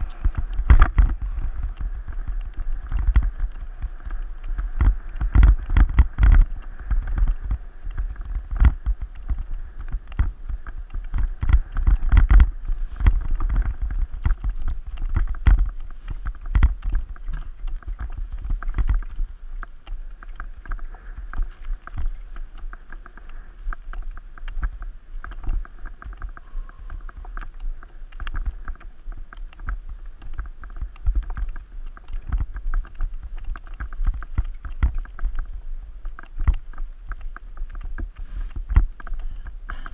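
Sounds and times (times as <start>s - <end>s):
mountain bike rattling: 0.0s - 39.9s
wheels knocking on roots and rocks: 0.0s - 39.9s.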